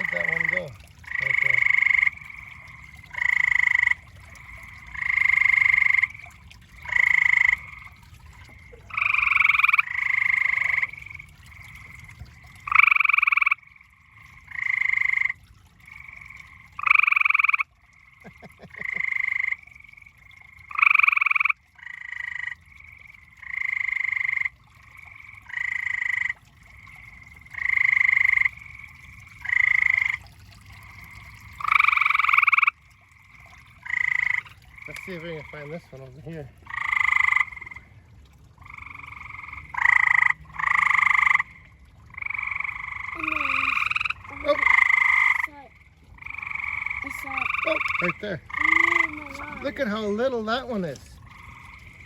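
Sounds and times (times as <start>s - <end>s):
tree frog trills: 0.0s - 38.0s, 38.6s - 52.0s
chorus of frogs: 0.0s - 52.0s.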